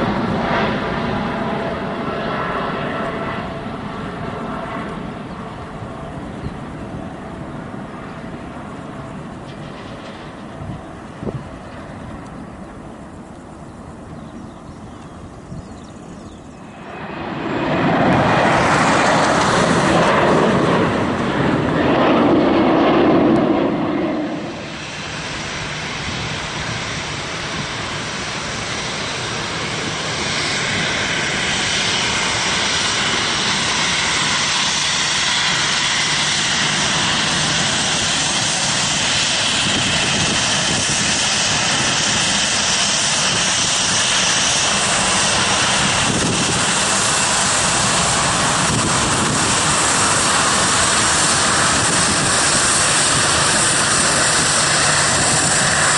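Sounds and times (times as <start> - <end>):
jet engine high whine: 0.0 - 55.9
jet engines roaring: 0.0 - 55.9.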